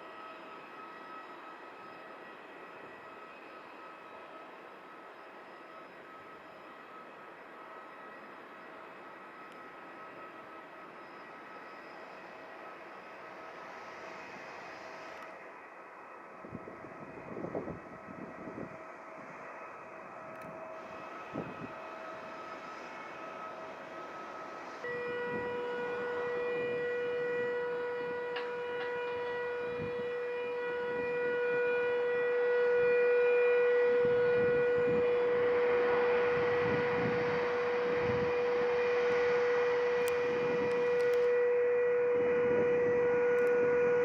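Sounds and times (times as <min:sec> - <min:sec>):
jet engines whining: 0:00.0 - 0:44.0.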